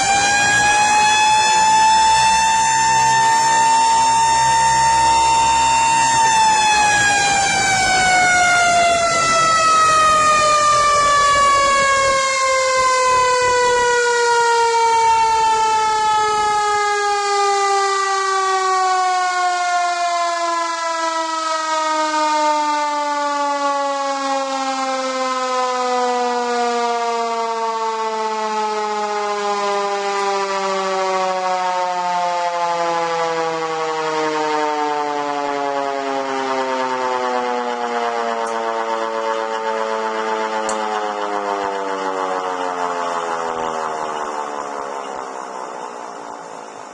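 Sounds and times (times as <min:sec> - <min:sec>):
mechanical siren winding down: 0:00.0 - 0:46.9.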